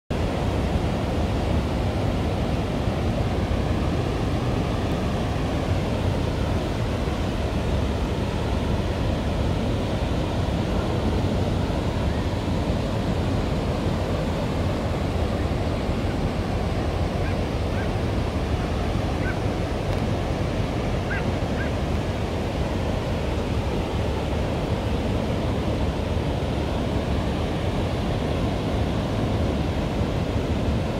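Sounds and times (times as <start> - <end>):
ocean waves breaking on beach: 0.1 - 30.9.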